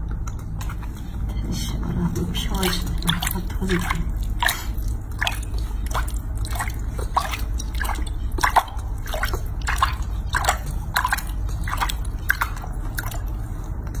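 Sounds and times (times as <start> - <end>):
steady low hum: 0.0 - 14.0
water splashing in a sink: 2.2 - 14.0.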